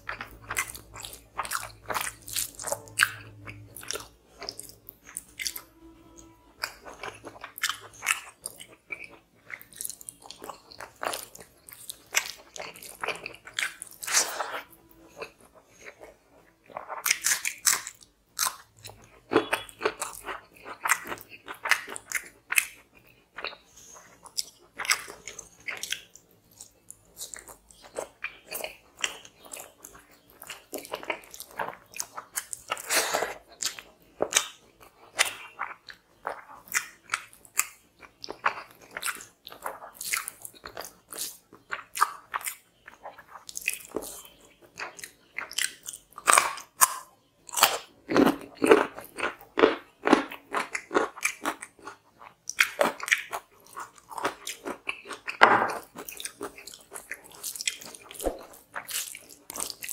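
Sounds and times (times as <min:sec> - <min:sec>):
chewing with mouth clicks: 0:00.0 - 0:59.9.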